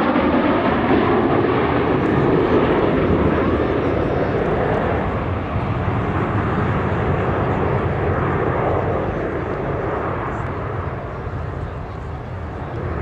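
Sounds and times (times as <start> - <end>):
jets passing overhead: 0.0 - 13.0.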